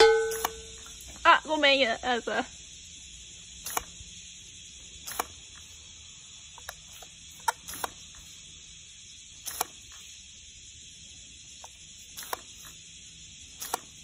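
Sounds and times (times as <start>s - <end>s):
garden hose spraying water: 0.0s - 14.0s.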